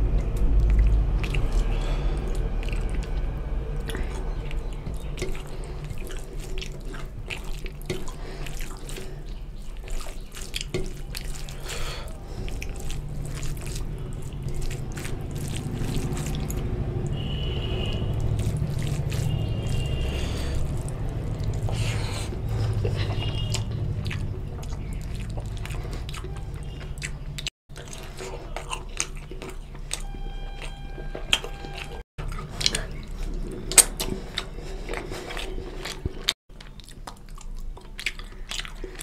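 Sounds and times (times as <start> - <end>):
low steady hum: 0.0 - 36.3
wet squelching with clicks: 0.0 - 39.0.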